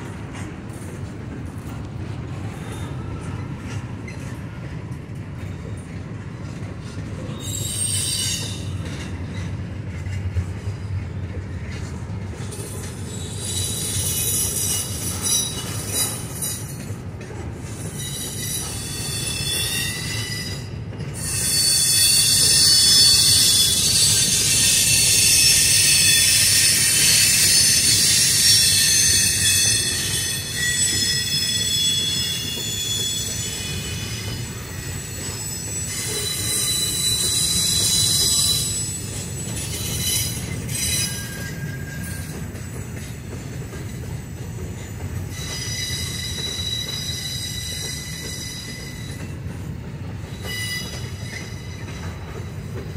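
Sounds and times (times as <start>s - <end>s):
low train rumble: 0.0s - 52.9s
steel wheels squealing: 6.8s - 10.2s, 12.4s - 17.0s, 17.7s - 52.9s.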